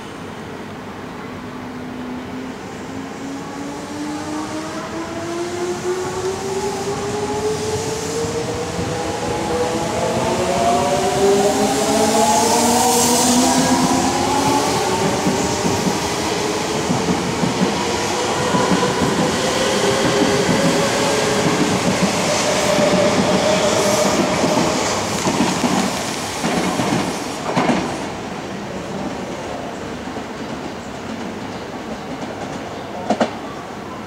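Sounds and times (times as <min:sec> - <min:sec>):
train wheel and rail noise: 0:00.0 - 0:34.0.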